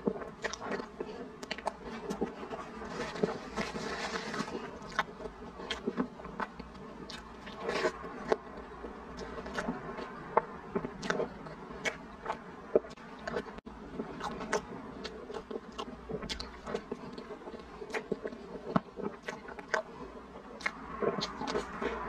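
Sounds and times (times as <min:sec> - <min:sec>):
faint steady hum: 0:00.0 - 0:22.0
sticky mouth clicks: 0:00.0 - 0:22.0.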